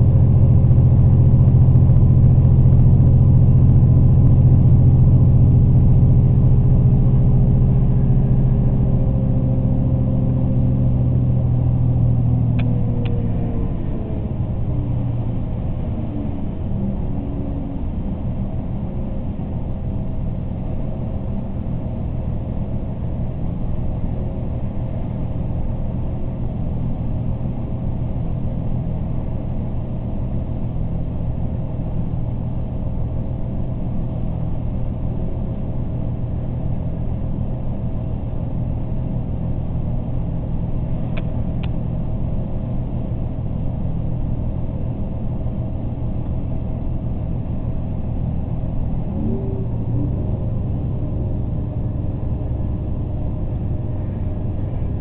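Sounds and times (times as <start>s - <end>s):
low engine hum: 0.0s - 55.0s
train rumble: 0.0s - 55.0s.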